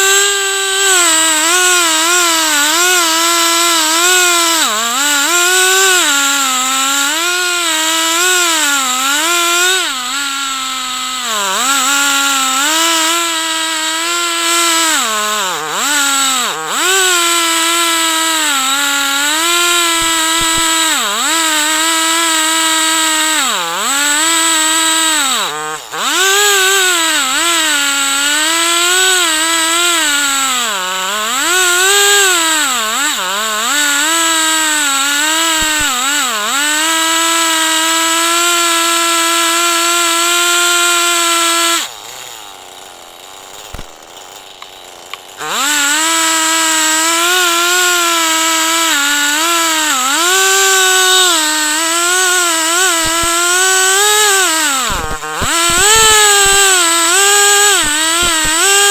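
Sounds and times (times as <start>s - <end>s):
chainsaw cutting a log: 0.0s - 58.9s.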